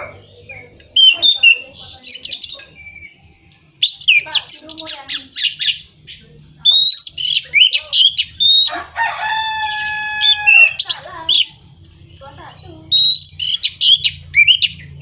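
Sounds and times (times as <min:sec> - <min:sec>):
thrush singing chirps and whistles: 0:00.0 - 0:15.0.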